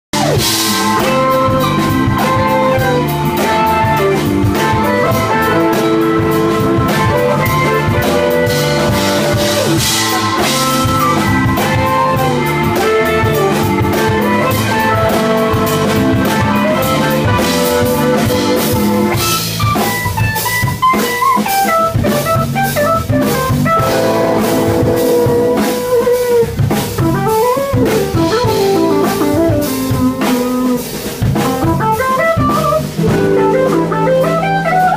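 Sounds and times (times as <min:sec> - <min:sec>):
live band playing loudly: 0:00.1 - 0:34.9.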